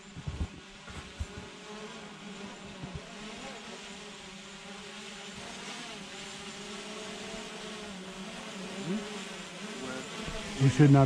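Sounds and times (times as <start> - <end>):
drone propellers buzzing: 0.0 - 11.0.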